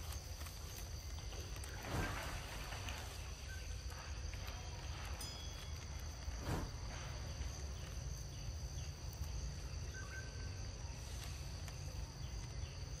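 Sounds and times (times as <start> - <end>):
faint chirps: 0.0 - 13.0
insects droning: 0.0 - 13.0.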